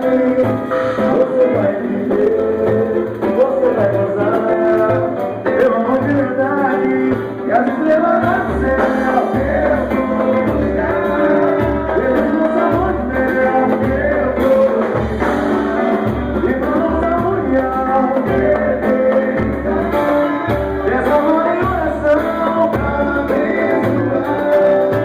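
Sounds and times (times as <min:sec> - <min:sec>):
romantic song with bass beat: 0:00.0 - 0:25.0.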